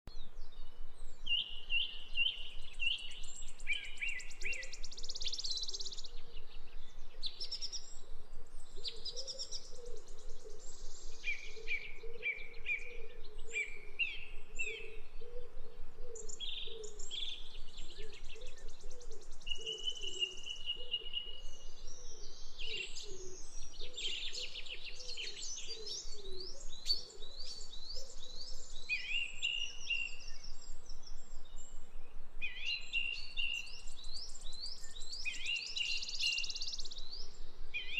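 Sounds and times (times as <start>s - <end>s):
songbirds singing: 0.1s - 37.9s.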